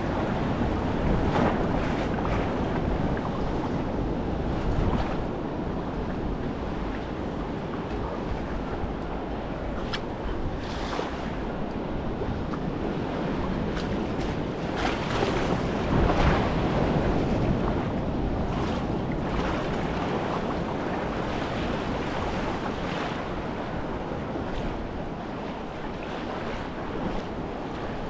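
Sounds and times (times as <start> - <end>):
wind rumbling on microphone: 0.0 - 28.0.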